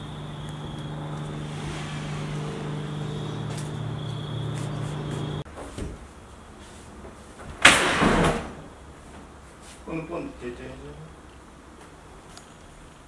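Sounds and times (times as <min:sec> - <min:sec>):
low mechanical hum with whine: 0:00.0 - 0:13.0.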